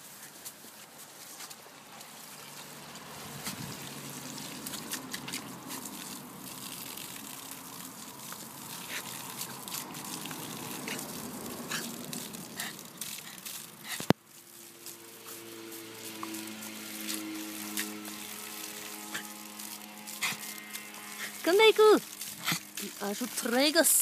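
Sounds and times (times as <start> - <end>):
hose water spraying on grass: 0.0 - 24.0.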